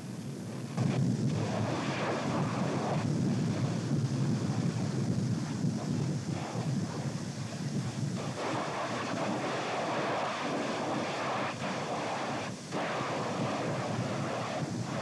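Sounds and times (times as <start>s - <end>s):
steam explosions rushing: 0.8s - 15.0s.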